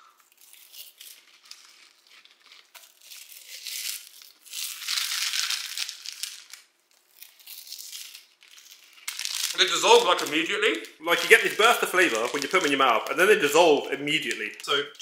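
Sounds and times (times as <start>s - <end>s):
plastic packets crinkling: 0.2s - 15.0s.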